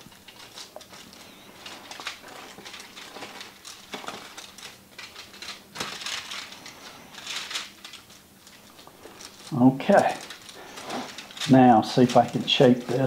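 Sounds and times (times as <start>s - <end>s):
foil crinkling: 0.0s - 13.0s.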